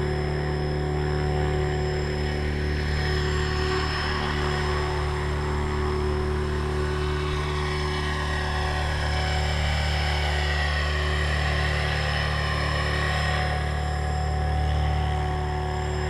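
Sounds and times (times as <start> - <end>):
drone motors humming and whining: 0.0 - 16.0.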